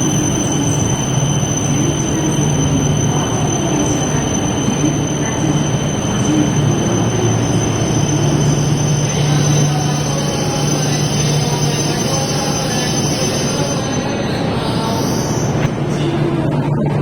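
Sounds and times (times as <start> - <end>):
thin high whine: 0.0 - 16.3
train rushing noise: 0.0 - 17.0.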